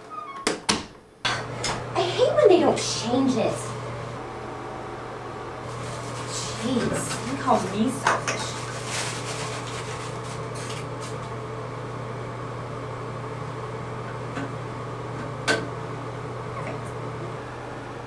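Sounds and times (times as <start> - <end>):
exhaust fan humming: 1.0 - 18.0.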